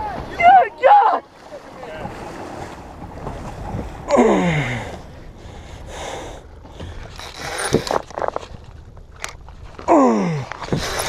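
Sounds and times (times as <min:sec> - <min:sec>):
water rushing around a boat: 0:00.0 - 0:11.0
wind: 0:00.0 - 0:11.0.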